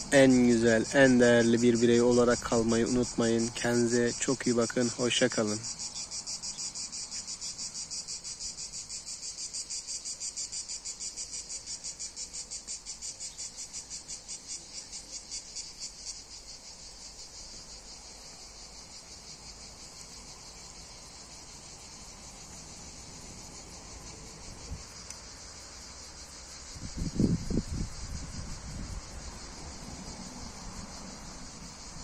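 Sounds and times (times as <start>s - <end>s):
insect pulsing buzz: 0.0s - 32.0s.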